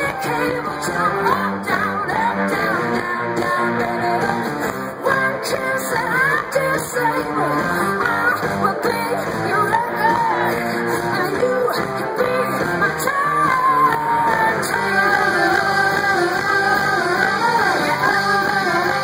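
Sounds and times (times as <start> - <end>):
rock band playing: 0.0 - 19.0
woman singing: 0.0 - 19.0.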